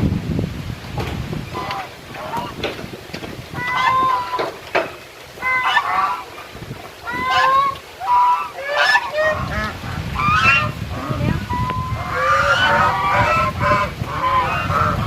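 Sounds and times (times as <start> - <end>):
geese honking harshly: 1.4 - 2.7, 3.5 - 15.0.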